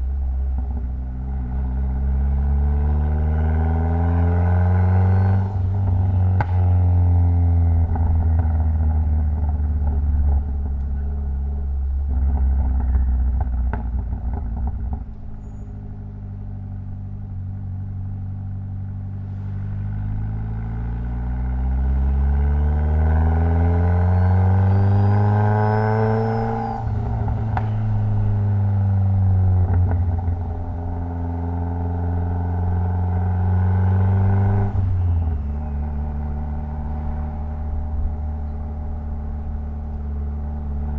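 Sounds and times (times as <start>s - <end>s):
car engine running: 4.5s - 22.2s, 23.6s - 33.3s, 34.5s - 40.9s.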